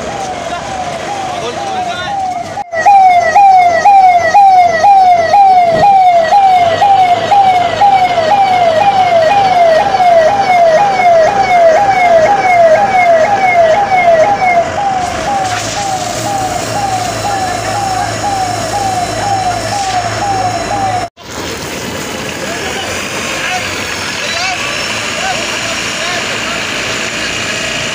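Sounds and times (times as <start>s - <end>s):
fire engine siren sweeping: 0.0s - 27.9s.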